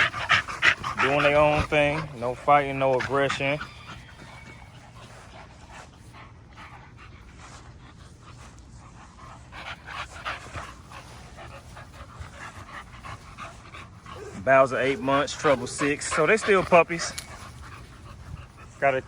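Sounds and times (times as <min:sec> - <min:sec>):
puppies panting and huffing: 0:00.0 - 0:19.0.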